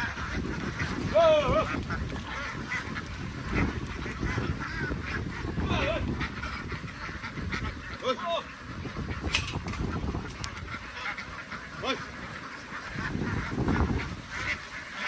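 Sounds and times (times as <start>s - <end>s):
ducks calling: 0.0s - 15.0s.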